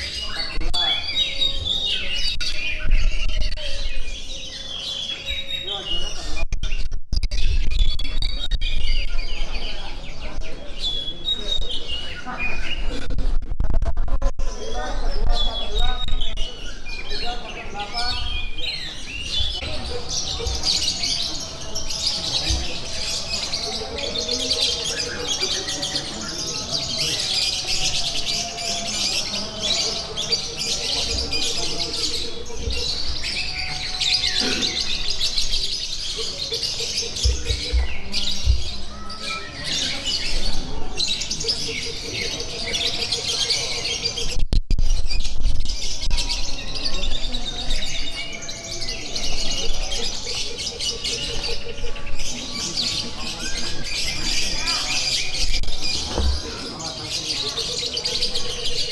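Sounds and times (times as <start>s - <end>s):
songbirds chirping and chattering: 0.0s - 58.9s.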